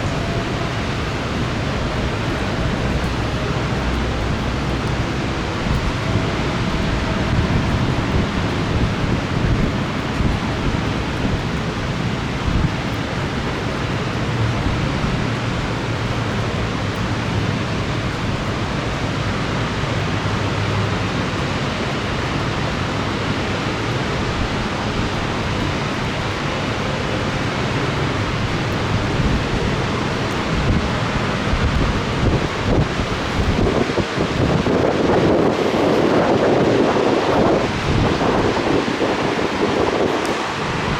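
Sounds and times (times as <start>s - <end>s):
heavy rain: 0.0s - 40.9s
wind buffeting microphone: 0.0s - 40.9s.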